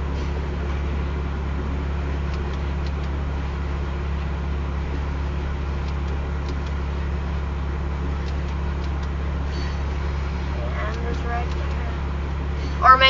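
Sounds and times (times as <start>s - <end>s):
low rumble inside car: 0.0s - 13.0s.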